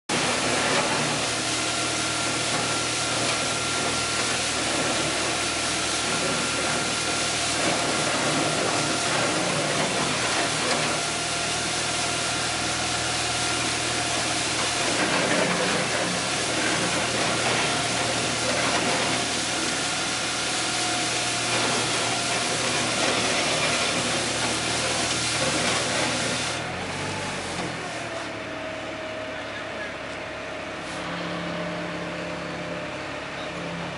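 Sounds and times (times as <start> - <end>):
sweeper brush hiss on concrete: 0.1 - 28.2
steady whine: 0.1 - 33.9.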